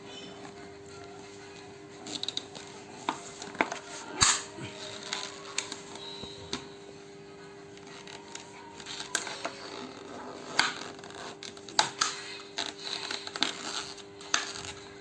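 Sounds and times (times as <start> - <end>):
plastic crinkling and scraping: 0.1 - 6.8, 7.7 - 15.0.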